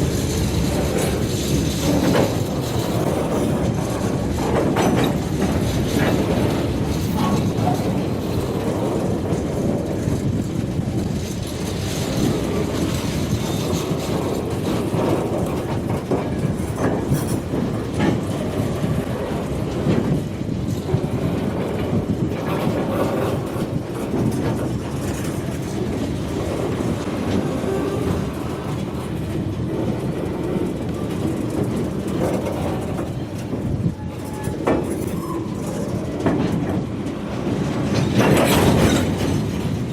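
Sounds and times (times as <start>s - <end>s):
steel wheels on rail: 0.0s - 39.9s.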